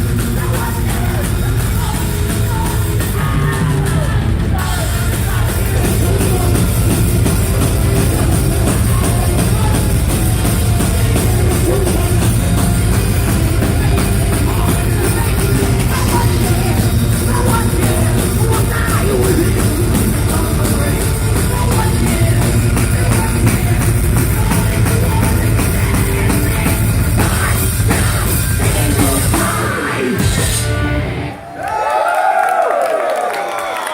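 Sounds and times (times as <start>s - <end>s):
live heavy metal band: 0.0s - 31.6s.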